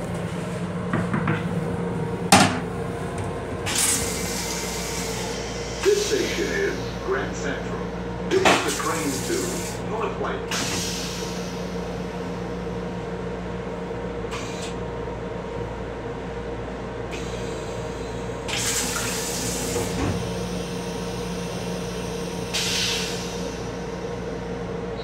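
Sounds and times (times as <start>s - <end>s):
railcar running hum: 0.0s - 25.0s.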